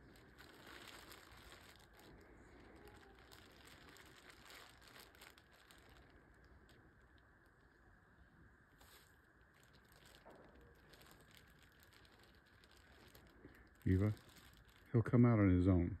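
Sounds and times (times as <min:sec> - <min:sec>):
plastic bag crinkling: 0:00.0 - 0:07.8, 0:08.7 - 0:15.1.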